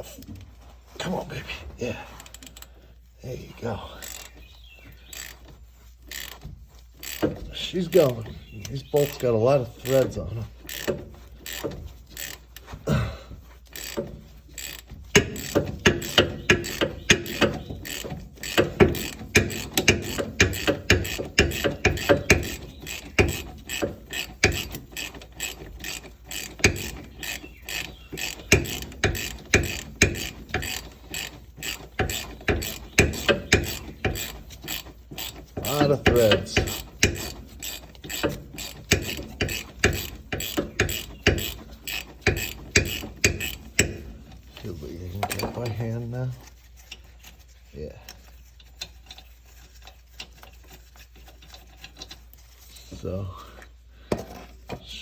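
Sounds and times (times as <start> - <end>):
ratchet clicking: 3.9 - 4.4, 5.0 - 12.8, 13.5 - 52.8.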